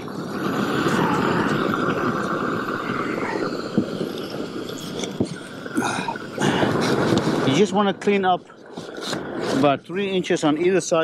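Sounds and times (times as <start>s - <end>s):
roofing torch rushing: 0.0s - 11.0s.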